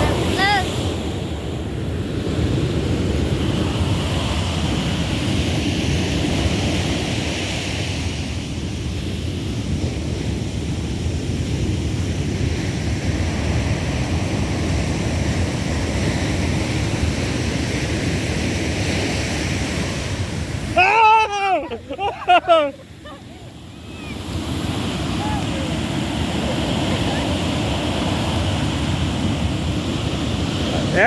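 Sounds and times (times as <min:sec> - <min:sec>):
wind noise on microphone: 0:00.0 - 0:20.8, 0:22.9 - 0:31.0
ocean surf washing onto beach: 0:00.0 - 0:31.0.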